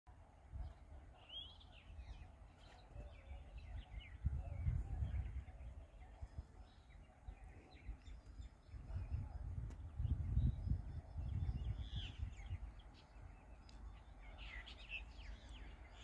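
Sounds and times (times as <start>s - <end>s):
small birds chirping: 0.5s - 16.0s
wind rumble on microphone: 2.0s - 16.0s.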